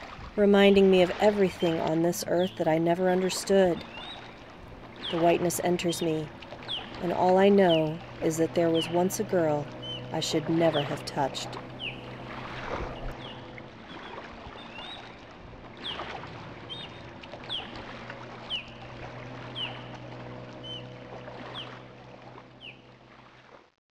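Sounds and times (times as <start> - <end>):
steady low hum: 0.0 - 23.6.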